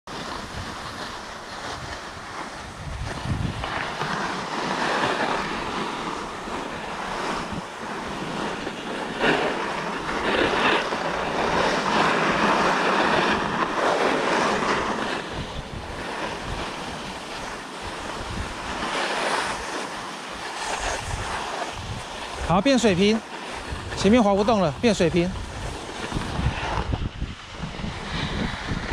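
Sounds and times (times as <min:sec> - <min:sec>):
skis scraping over snow: 0:00.1 - 0:28.9
wind rushing across microphone: 0:00.1 - 0:28.9.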